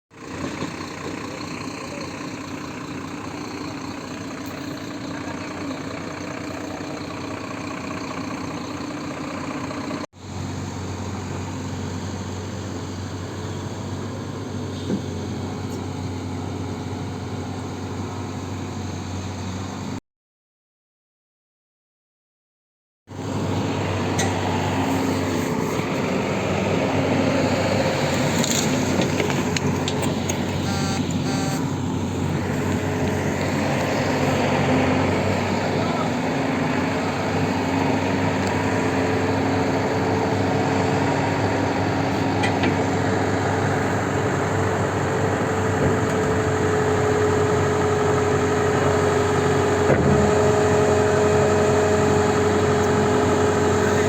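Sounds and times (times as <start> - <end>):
truck engine running: 0.1 - 20.0, 23.1 - 54.0.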